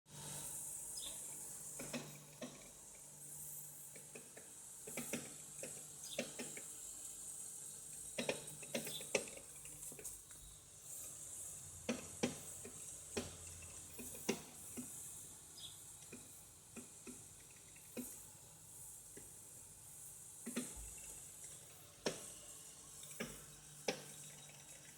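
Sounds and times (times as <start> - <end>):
faint refrigerator hum: 0.1 - 24.9.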